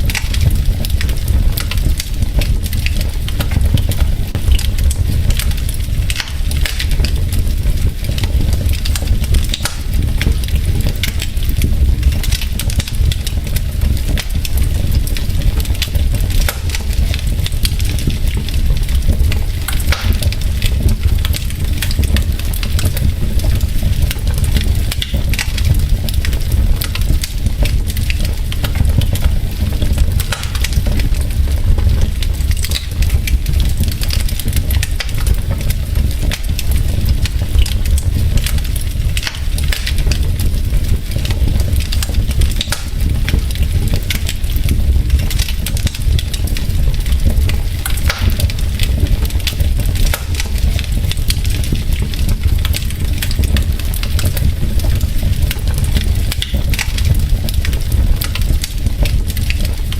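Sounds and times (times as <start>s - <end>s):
logs crackling in fireplace: 0.0s - 59.9s.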